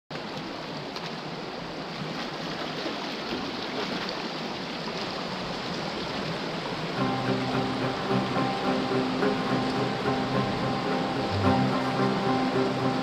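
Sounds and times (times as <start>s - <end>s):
feet wading and splashing: 0.1s - 12.6s
stream running over stones: 0.1s - 13.0s.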